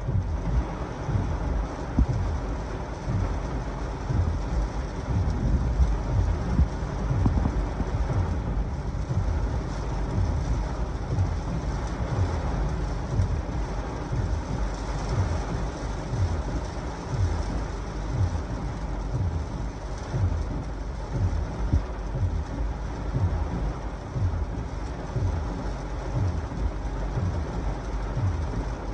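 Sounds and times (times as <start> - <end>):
heavy rain on car roof: 0.0 - 28.9
low thumps: 0.0 - 28.9.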